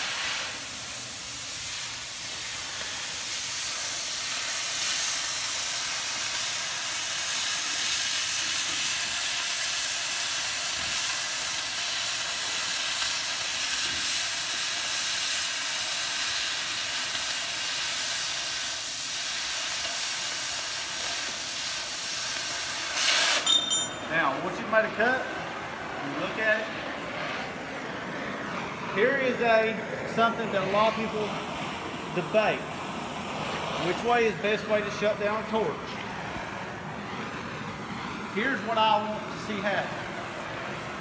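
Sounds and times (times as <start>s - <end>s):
cutting torch hissing: 0.0s - 41.0s.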